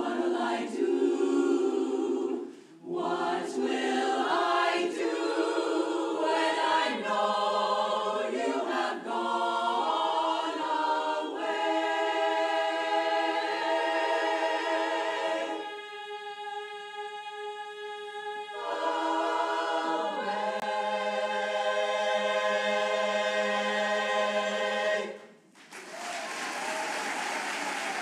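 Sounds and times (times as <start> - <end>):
women's chorus singing a cappella: 0.0 - 25.4.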